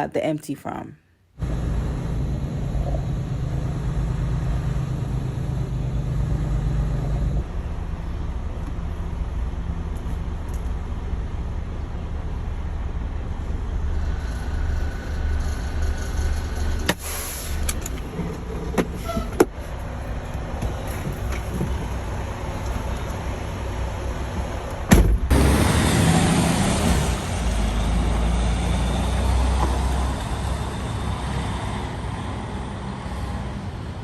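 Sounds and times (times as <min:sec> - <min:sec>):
diesel engine droning: 0:01.4 - 0:34.0.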